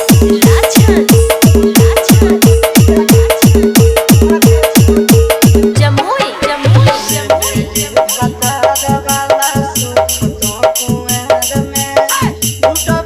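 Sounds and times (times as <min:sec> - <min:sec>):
dance music with fast beat: 0:00.0 - 0:13.0.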